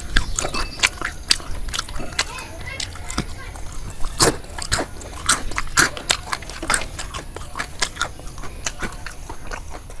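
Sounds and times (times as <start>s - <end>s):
chewing crispy fried food: 0.0s - 10.0s.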